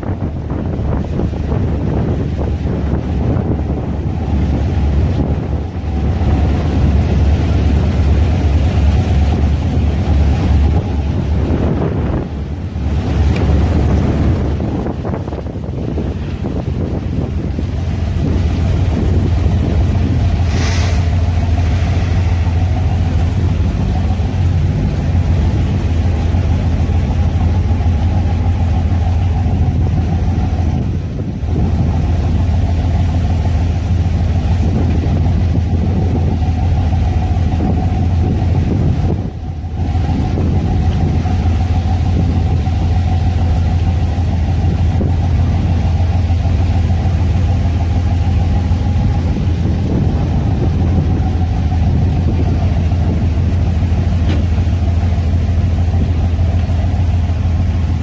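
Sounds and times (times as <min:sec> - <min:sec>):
boat engines rumbling: 0:00.0 - 0:58.0.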